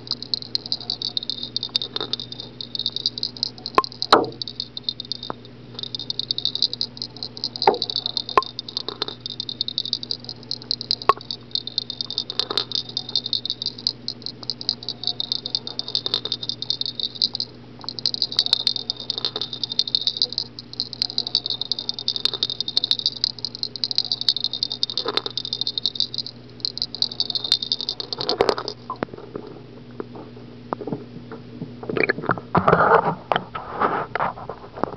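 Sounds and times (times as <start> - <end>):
fishing lure buzzing rattle: 0.0 - 29.0.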